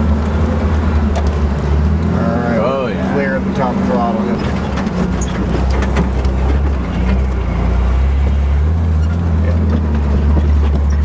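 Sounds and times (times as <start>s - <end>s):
car engine driving: 0.0s - 11.0s.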